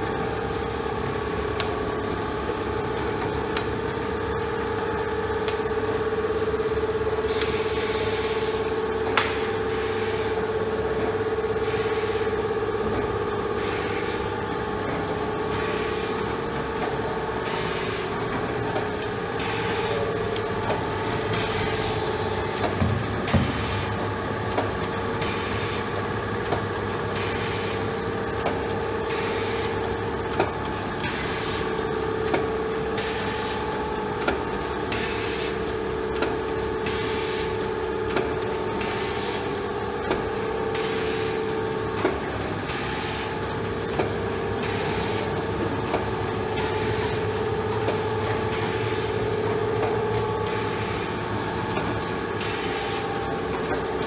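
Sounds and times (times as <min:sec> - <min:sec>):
machine mechanical hum: 0:00.0 - 0:54.0.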